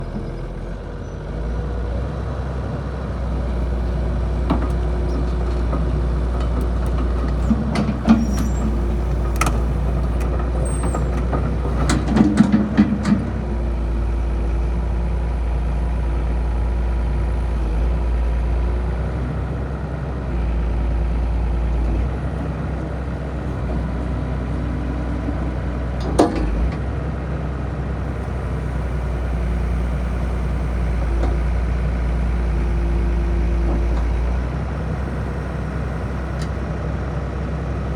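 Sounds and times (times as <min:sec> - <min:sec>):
excavator diesel engine droning: 0:00.0 - 0:37.9.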